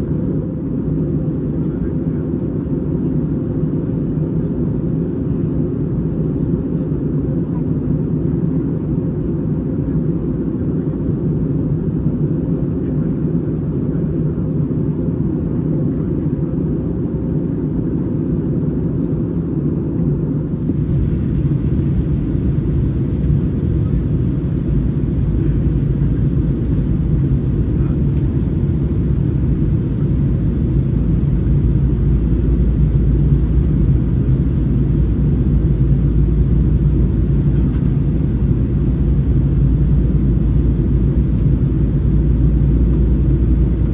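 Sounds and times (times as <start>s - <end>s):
aircraft cabin engine roar: 0.0s - 43.9s.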